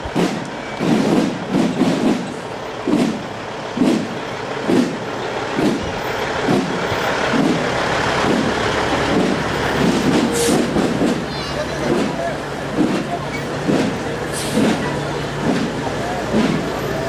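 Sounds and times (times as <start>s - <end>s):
slow drum beat: 0.0s - 16.8s
truck diesel engine running: 0.0s - 17.0s.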